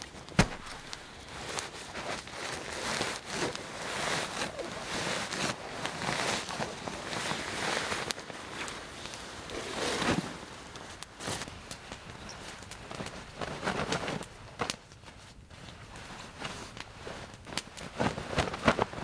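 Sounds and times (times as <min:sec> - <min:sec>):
fabric bedding rustling: 0:00.0 - 0:19.0.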